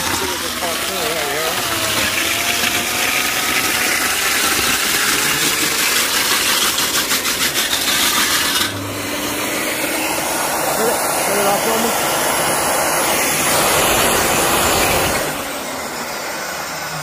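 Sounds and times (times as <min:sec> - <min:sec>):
core drill grinding: 0:00.0 - 0:17.0.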